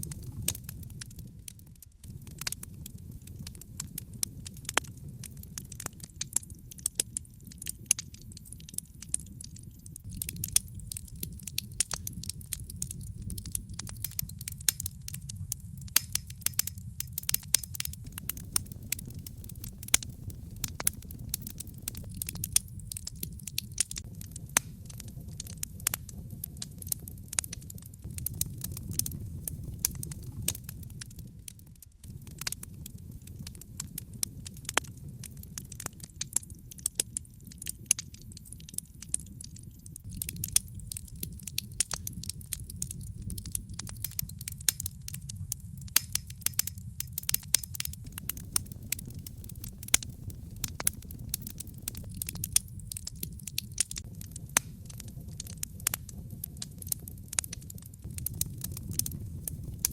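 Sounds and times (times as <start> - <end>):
log fire crackling and popping: 0.0 - 59.9
low rumble of burning logs: 0.0 - 59.9.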